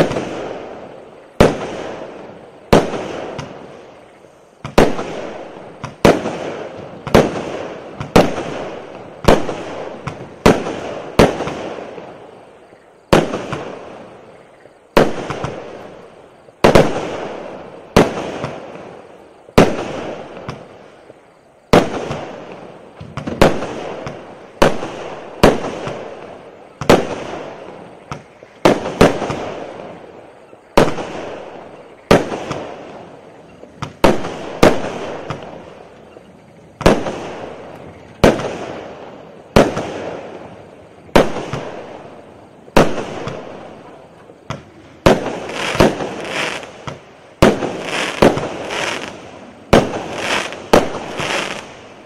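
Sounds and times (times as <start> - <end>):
fireworks bangs: 0.0 - 52.0.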